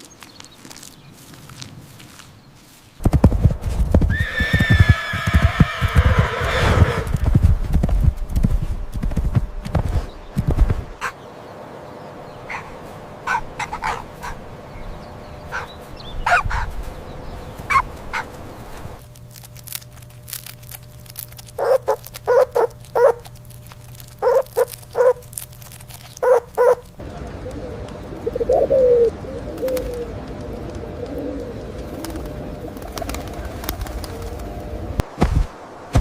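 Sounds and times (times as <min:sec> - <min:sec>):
steady low hum: 0:03.0 - 0:36.0.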